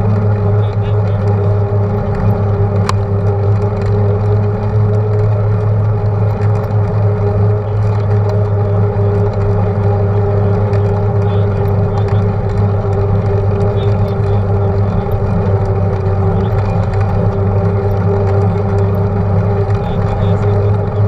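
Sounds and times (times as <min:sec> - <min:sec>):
road rumble: 0:00.0 - 0:21.0
steady hum: 0:00.0 - 0:21.0.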